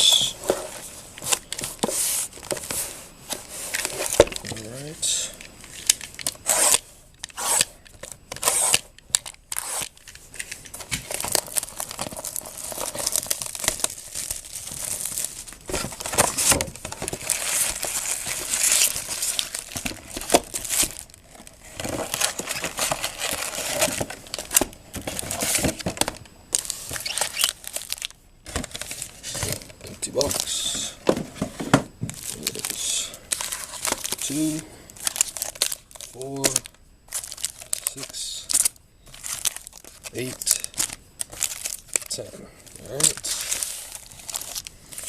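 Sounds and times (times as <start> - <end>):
plastic wrapping crinkling and tearing: 3.4 - 31.0, 32.0 - 45.0.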